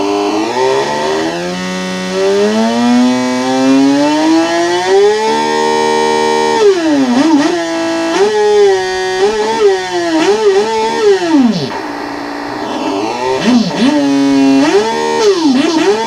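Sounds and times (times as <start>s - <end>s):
synthetic motorcycle engine note: 0.0s - 16.0s.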